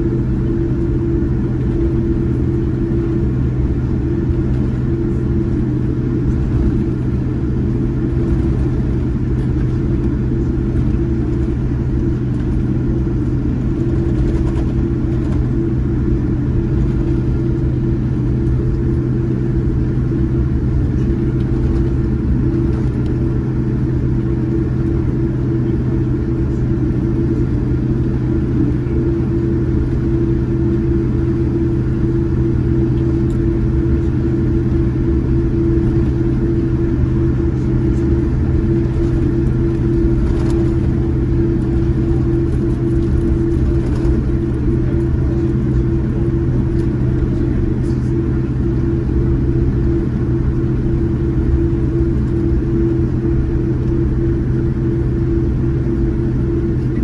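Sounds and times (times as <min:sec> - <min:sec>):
jet engine hum in cabin: 0:00.0 - 0:57.0.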